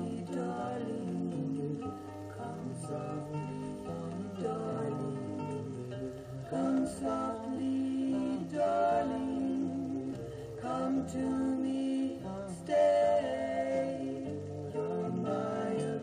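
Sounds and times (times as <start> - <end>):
song with singing from vinyl: 0.0 - 16.0.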